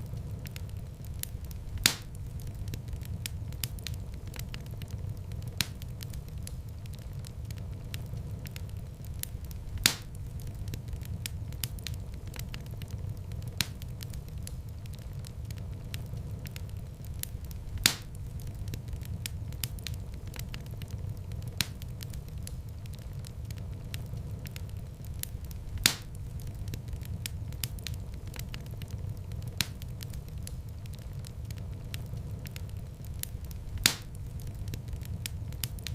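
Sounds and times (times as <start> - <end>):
fire crackling: 0.0 - 35.9
fire flames rumbling: 0.0 - 35.9
loud fire pops: 0.0 - 35.9.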